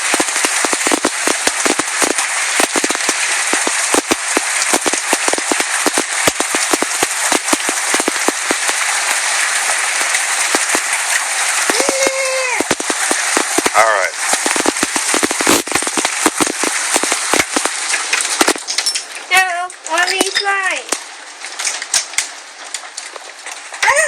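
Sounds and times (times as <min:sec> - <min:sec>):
hailstones pelting hard surfaces: 0:00.0 - 0:24.0
heavy rain hiss: 0:00.0 - 0:24.0.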